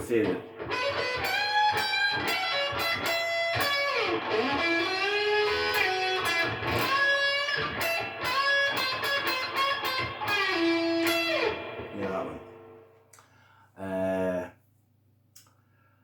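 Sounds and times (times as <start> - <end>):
electric guitar lead line: 0.0 - 12.8.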